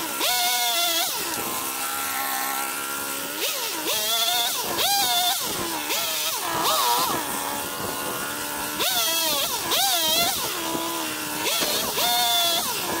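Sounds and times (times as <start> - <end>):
chainsaw revving and cutting: 0.0 - 13.0.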